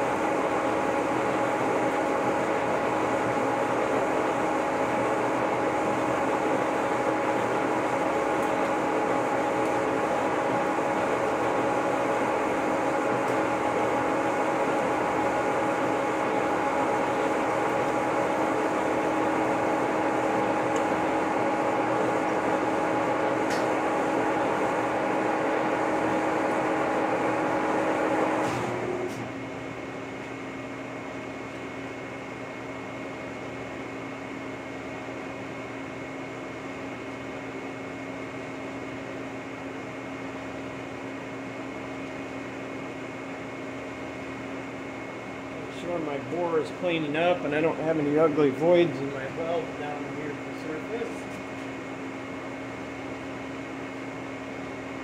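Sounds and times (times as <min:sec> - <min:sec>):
boring mill whining: 0:00.0 - 0:36.5, 0:39.0 - 0:55.0.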